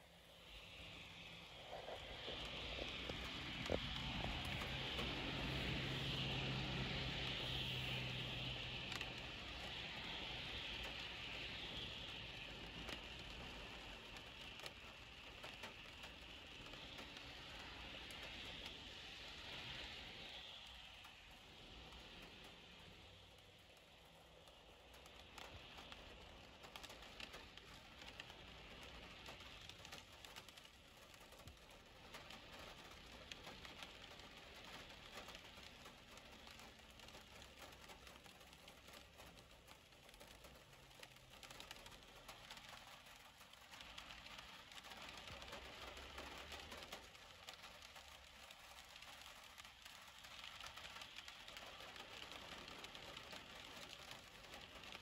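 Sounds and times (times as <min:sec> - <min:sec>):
rain pattering on window: 0:00.0 - 0:55.0
vehicles passing on wet road: 0:00.5 - 0:23.4, 0:24.0 - 0:55.0.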